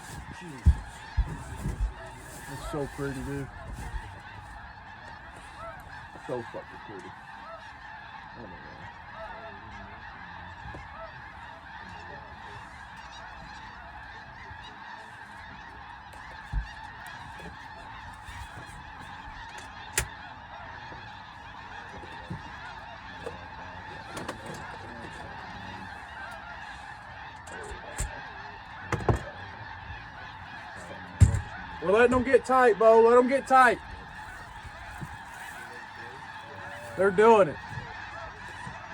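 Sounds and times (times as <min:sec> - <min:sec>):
geese calling: 0:00.0 - 0:38.9.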